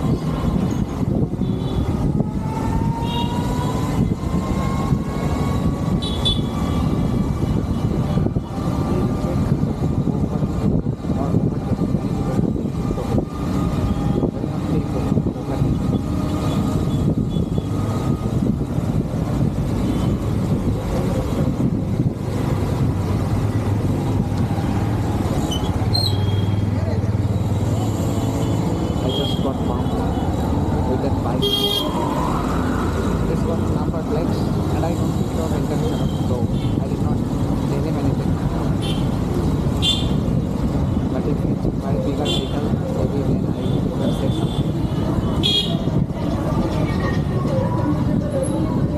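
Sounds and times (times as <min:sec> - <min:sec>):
wind rush on microphone: 0:00.0 - 0:48.9.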